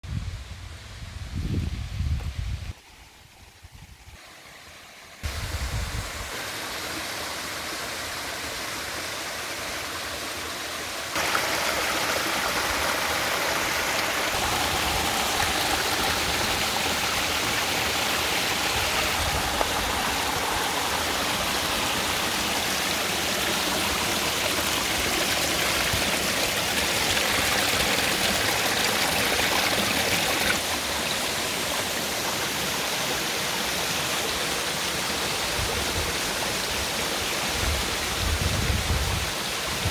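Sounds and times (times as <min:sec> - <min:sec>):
waterfall rushing: 0:04.7 - 0:39.9.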